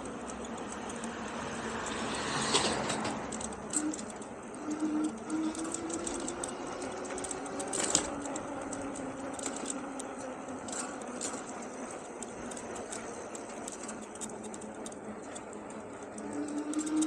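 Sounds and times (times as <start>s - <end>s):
electric bike motor whining: 0.0s - 17.0s
light clicks and ticks: 0.0s - 17.0s.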